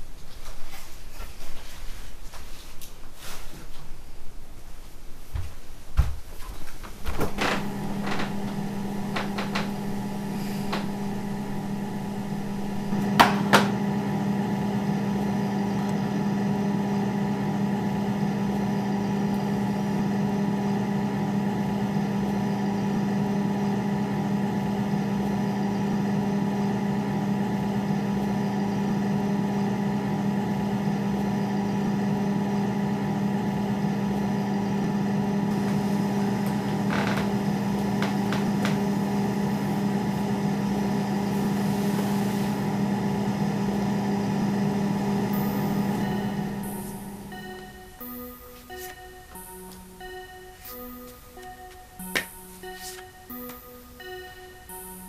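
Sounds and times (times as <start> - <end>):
refrigerator electrical hum: 0.0 - 55.0.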